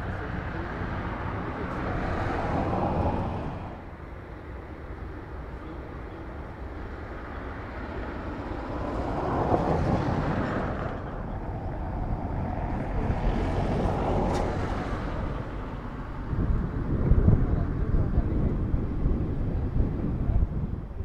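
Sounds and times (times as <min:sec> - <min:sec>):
jet engines rumbling and whining: 0:00.0 - 0:21.0.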